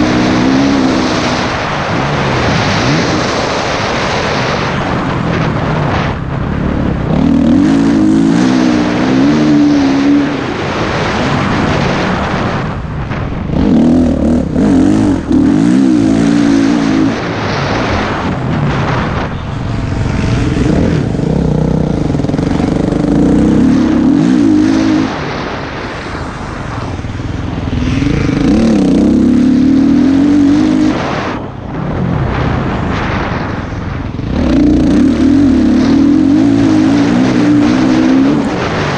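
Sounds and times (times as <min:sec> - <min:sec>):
engines running and revving: 0:00.0 - 0:38.9.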